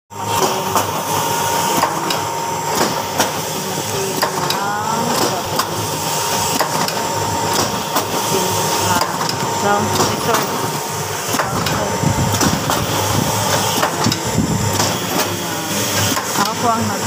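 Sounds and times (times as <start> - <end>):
machine whine: 0.1 - 17.0.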